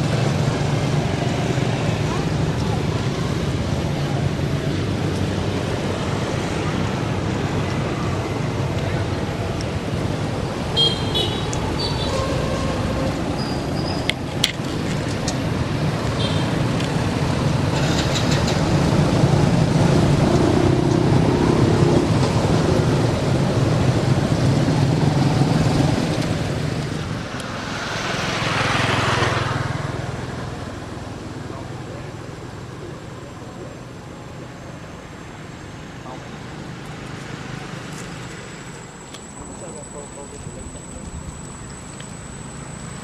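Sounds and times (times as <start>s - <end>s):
passing traffic rush: 0.0s - 43.0s
vehicle engine humming: 0.0s - 43.0s.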